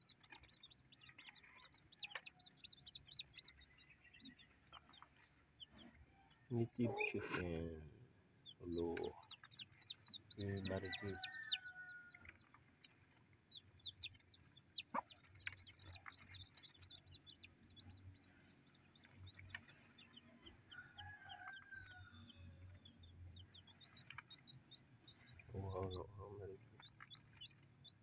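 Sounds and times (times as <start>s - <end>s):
chicks peeping: 0.0s - 7.7s, 8.4s - 28.0s.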